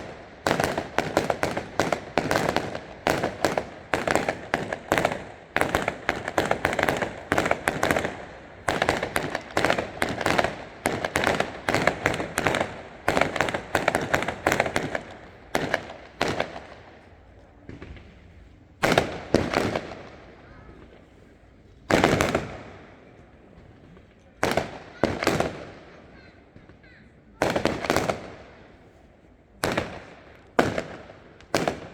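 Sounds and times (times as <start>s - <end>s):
fireworks bursts and bangs: 0.0s - 23.2s, 23.9s - 29.0s, 29.6s - 31.9s.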